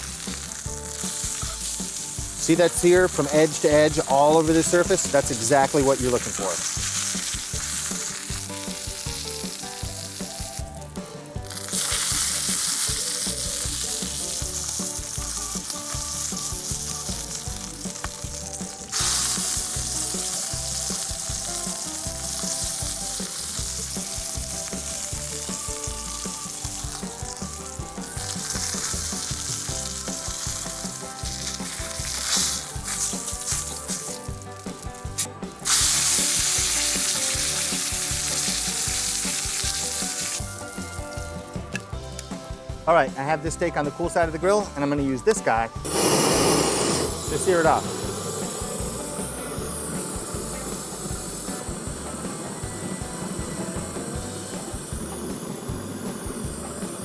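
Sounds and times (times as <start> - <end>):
steak sizzling in skillet: 0.0 - 42.8, 45.7 - 57.0.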